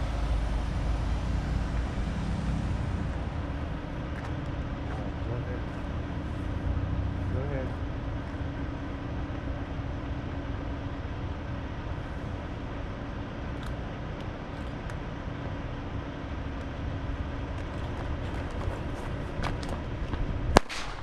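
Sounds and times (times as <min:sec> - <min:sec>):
faint steady hum: 0:00.0 - 0:21.0
outdoor rumble and hiss: 0:00.0 - 0:21.0.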